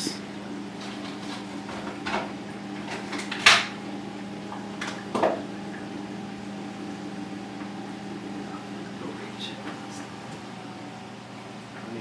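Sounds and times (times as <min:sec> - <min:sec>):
aquarium equipment electrical hum: 0:00.0 - 0:12.0.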